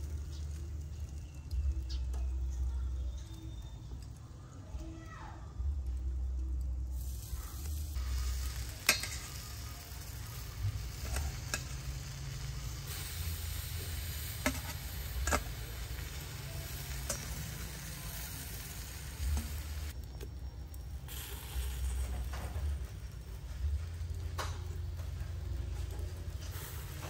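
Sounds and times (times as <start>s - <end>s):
food sizzling: 0.0s - 4.3s, 5.0s - 27.0s.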